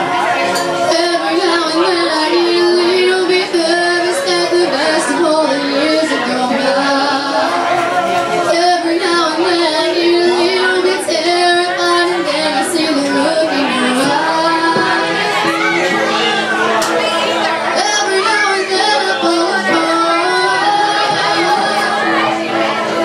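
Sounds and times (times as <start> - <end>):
karaoke backing track: 0.0 - 23.0
woman singing into a microphone: 0.0 - 23.0.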